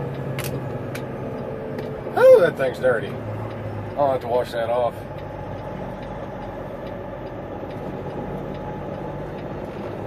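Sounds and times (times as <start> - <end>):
diesel truck engine running: 0.0 - 10.0
faint regular ticking: 1.0 - 2.0, 2.6 - 10.0.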